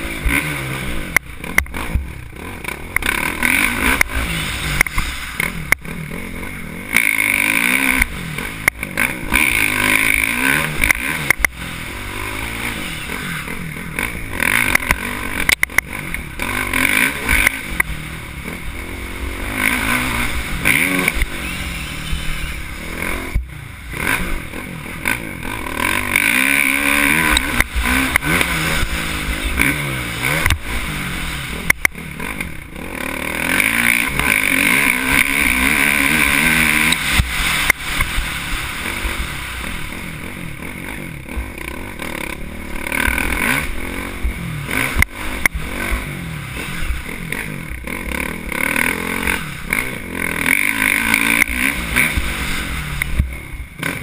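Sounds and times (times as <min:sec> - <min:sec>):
bike knocking and rattling on bumps: 0:00.0 - 0:13.2, 0:13.8 - 0:22.3, 0:23.2 - 0:54.0
dirt bike engine revving: 0:00.0 - 0:54.0.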